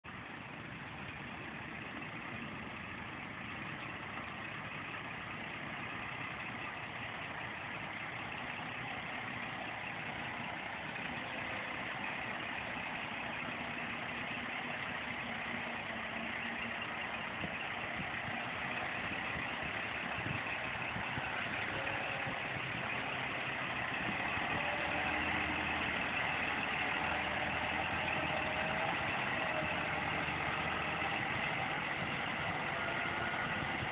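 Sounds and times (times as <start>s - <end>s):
truck diesel engine running: 0.0s - 33.9s.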